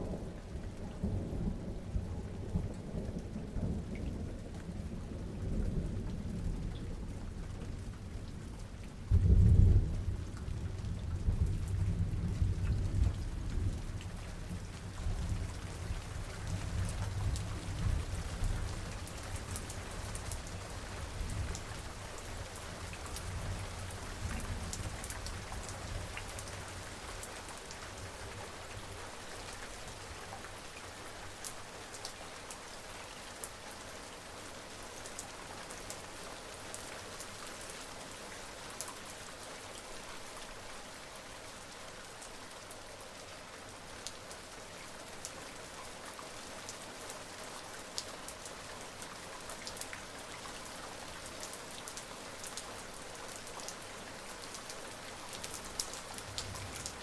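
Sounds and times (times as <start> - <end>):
rain falling on surfaces: 0.0 - 57.0.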